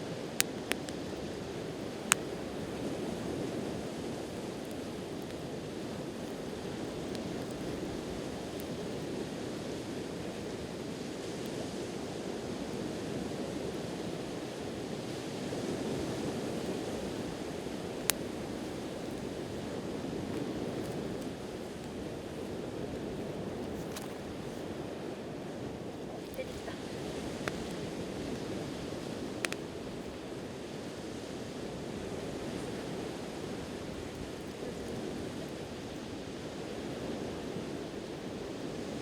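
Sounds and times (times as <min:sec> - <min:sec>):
campfire wood popping: 0:00.1 - 0:39.0
faint fire ticks: 0:00.2 - 0:25.2, 0:25.8 - 0:31.0, 0:31.9 - 0:37.1.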